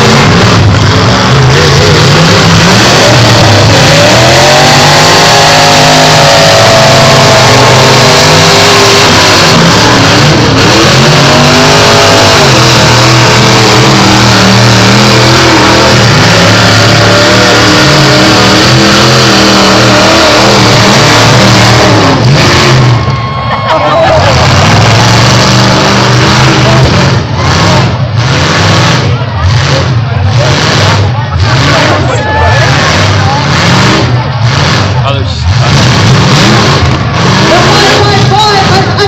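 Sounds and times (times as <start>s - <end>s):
engines revving hard: 0.0s - 39.0s.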